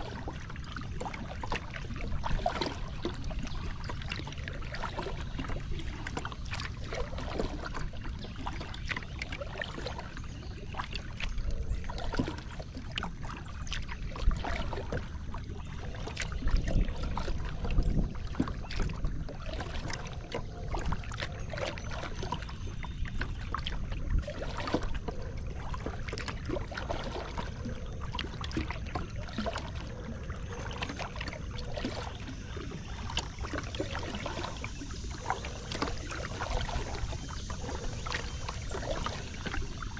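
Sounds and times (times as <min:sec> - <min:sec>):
paddle splashes and drips: 0:00.0 - 0:39.9
water lapping at hull: 0:00.0 - 0:39.9.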